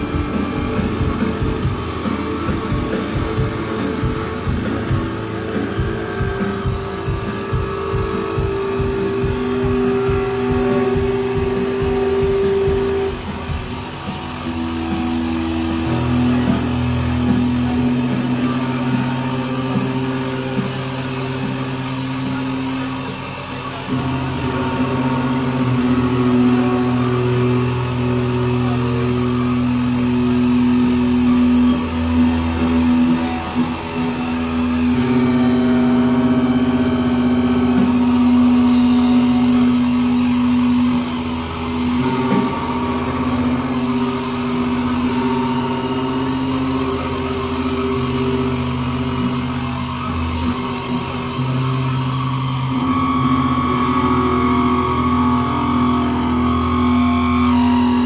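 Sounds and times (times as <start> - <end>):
distorted electric guitar drone: 0.0 - 58.0
haze of noise: 0.0 - 58.0.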